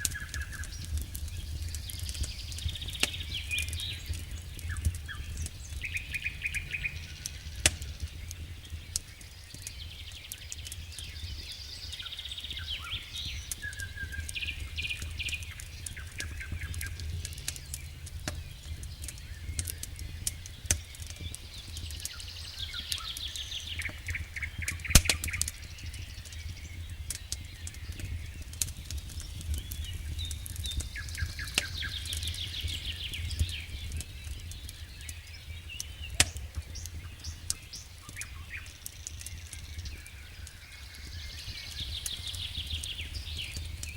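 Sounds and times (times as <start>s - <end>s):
birds chirping: 0.0s - 43.9s
low rumble of fire: 0.0s - 43.9s
wood fire crackling and popping: 0.0s - 43.9s.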